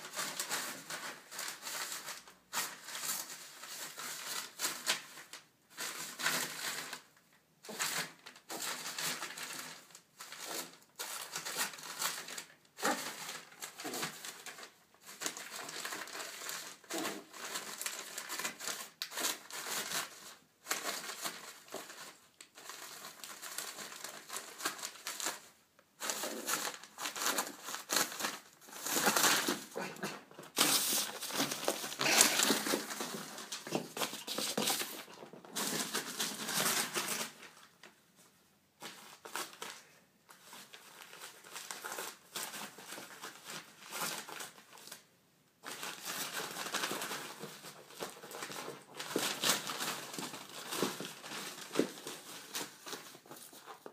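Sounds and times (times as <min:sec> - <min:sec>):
newspaper crumpling and rustling: 0:00.0 - 0:07.1, 0:07.7 - 0:38.0, 0:38.8 - 0:53.9.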